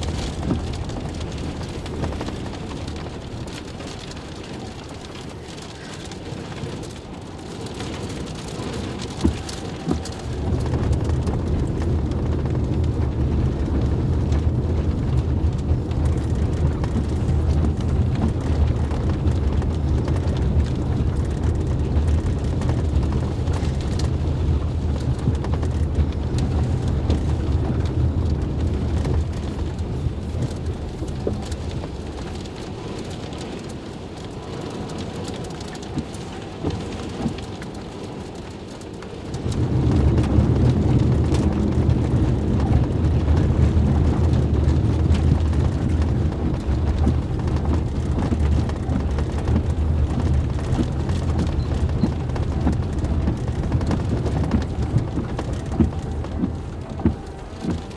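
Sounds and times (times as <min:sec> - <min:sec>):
rain: 0:00.0 - 0:57.9
strong wind buffeting: 0:00.0 - 0:57.9.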